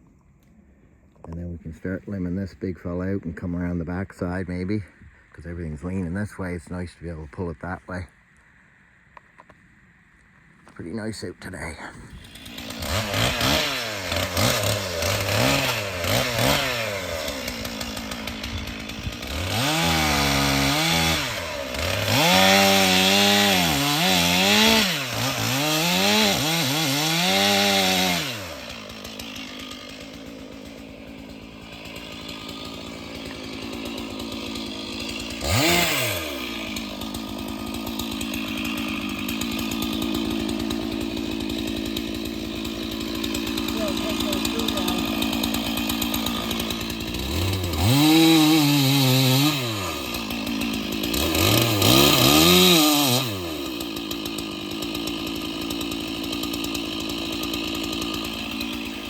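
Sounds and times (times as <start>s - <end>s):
chainsaw revving: 11.5s - 59.0s.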